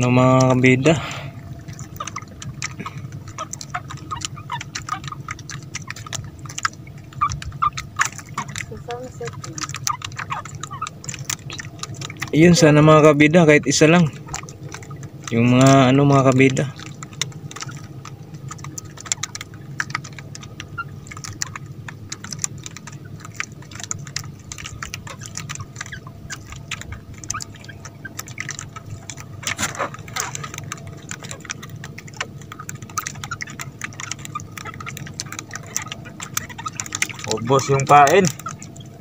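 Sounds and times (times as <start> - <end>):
light clicks and knocks: 0.0 - 39.0
water dripping and splashing: 0.0 - 39.0.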